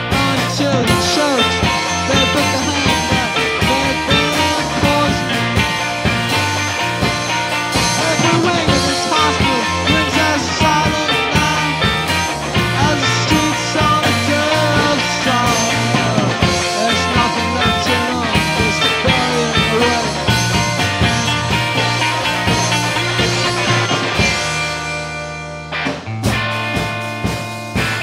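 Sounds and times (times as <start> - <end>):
garage rock band playing: 0.0 - 28.0.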